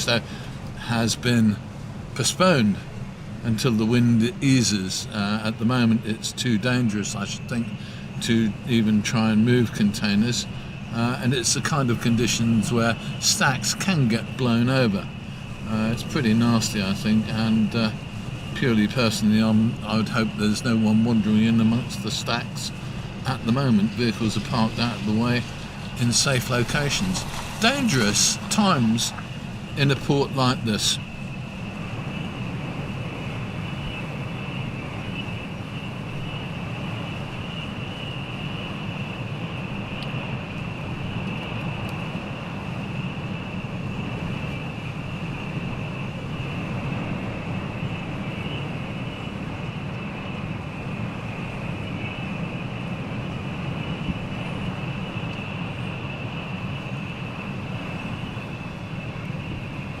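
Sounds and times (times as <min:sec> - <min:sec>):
high-pitched whine: 0:00.0 - 1:00.0
wind buffeting microphone: 0:00.0 - 1:00.0.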